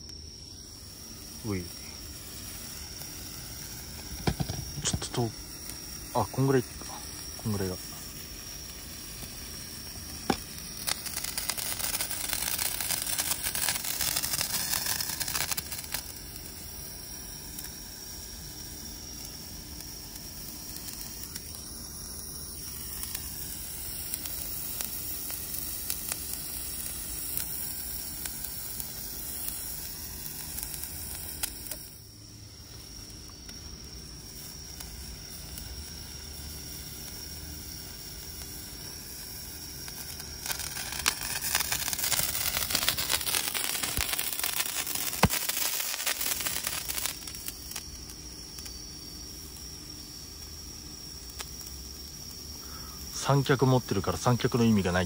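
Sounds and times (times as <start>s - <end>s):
firework hissing and crackling: 0.0s - 55.0s.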